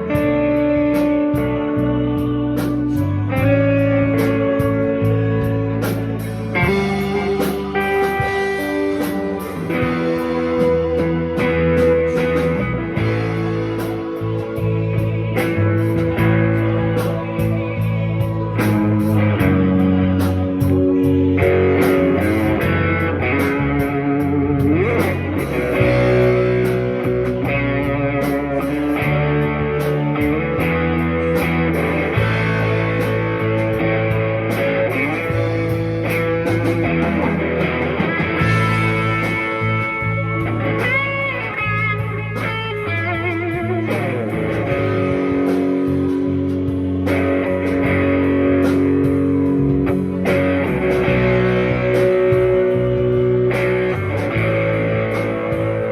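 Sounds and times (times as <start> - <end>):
guitar notes and chords: 0.0 - 55.9
low bass line: 0.0 - 55.9.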